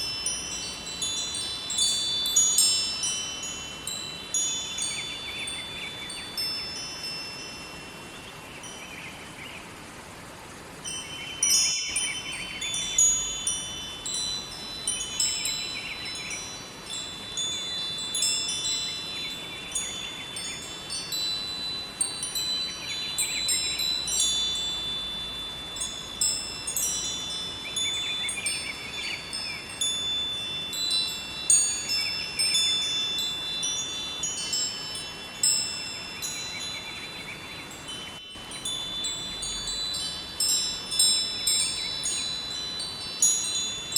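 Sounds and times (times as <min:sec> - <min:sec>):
metal wind chimes ringing: 0:00.0 - 0:09.3, 0:10.8 - 0:43.9.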